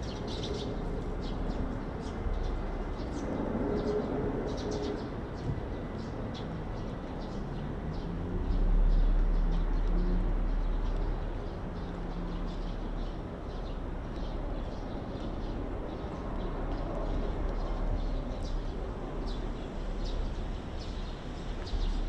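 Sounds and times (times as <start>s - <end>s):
low rumble of city traffic: 0.0s - 22.0s.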